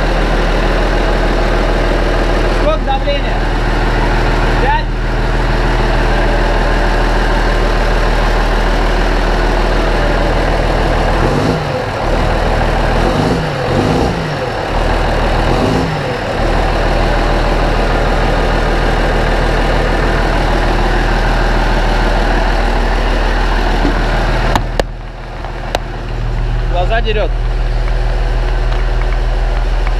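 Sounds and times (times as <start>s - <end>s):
diesel tractor engine idling: 0.0s - 29.9s.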